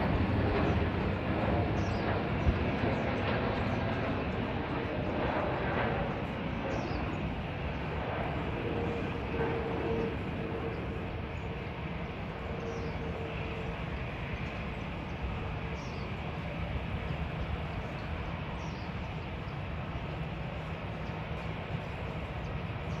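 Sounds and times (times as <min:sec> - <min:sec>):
distant jet aircraft rumble: 0:00.0 - 0:23.0.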